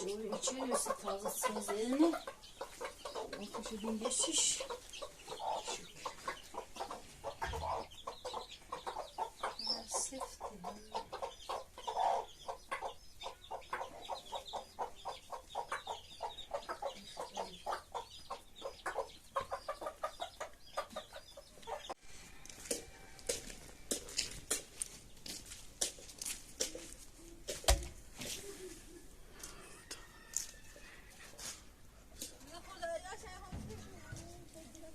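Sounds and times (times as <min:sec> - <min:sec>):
chickens clucking: 0:00.0 - 0:34.9.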